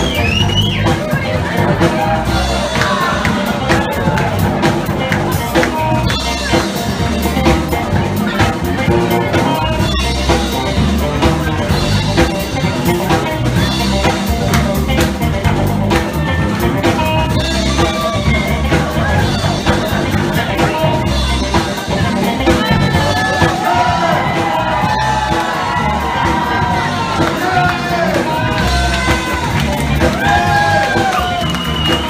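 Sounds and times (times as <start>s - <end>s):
live band playing loud music: 0.0s - 32.0s
melody with bending notes: 0.0s - 32.0s.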